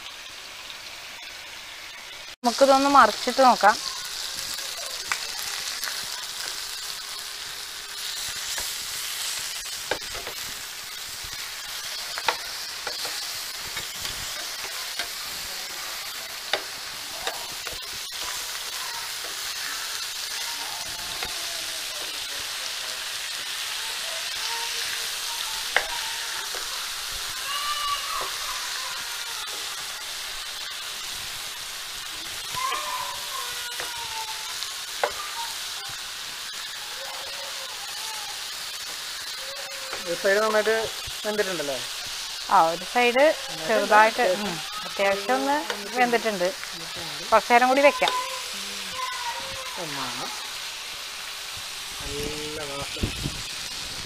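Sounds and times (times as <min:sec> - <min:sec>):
chicken sizzling in oil: 0:00.0 - 0:54.0.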